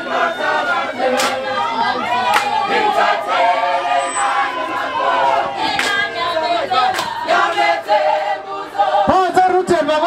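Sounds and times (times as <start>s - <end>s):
group singing in chorus: 0.0s - 9.6s.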